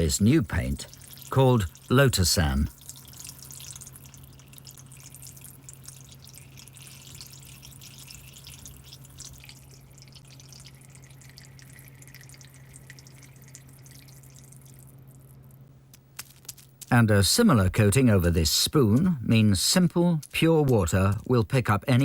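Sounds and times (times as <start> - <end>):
water dripping and trickling: 0.0 - 15.6, 18.7 - 22.0
faint low hum: 0.0 - 22.0.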